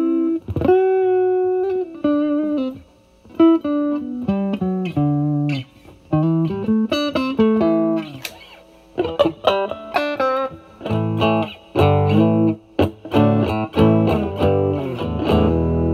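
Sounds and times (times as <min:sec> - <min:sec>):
overdriven electric guitar lead: 0:00.0 - 0:15.9.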